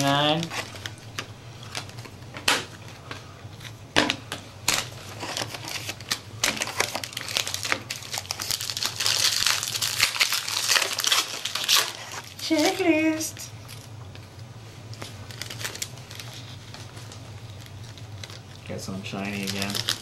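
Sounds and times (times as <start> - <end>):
foil packs crinkling: 0.0 - 3.8, 4.6 - 14.3, 14.9 - 20.0.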